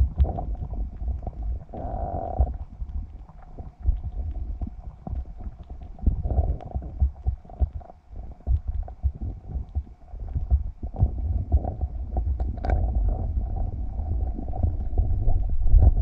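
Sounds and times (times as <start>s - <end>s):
muffled underwater water rumbling: 0.0s - 16.0s.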